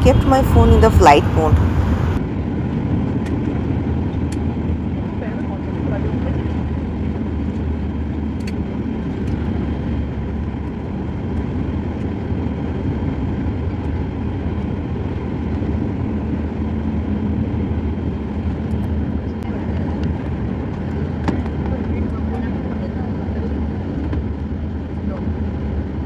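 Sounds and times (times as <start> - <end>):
airliner engines and airflow rumble: 0.0 - 26.0.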